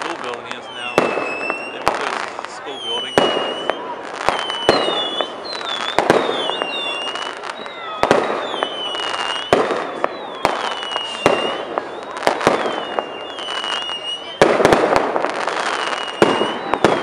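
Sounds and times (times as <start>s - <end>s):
descending fireworks whistles: 0.0s - 17.0s
fireworks bangs: 0.0s - 17.0s
fireworks crackle: 0.0s - 17.0s.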